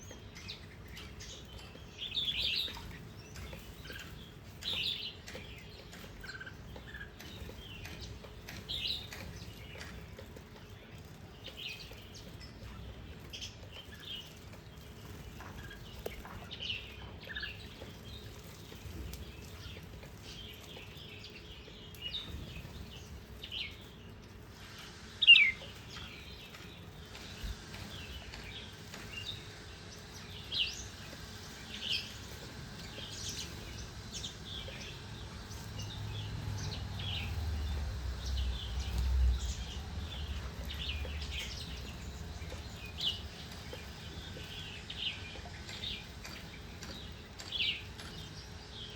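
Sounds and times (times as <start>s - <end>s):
small songbirds chirping: 0.0s - 48.9s.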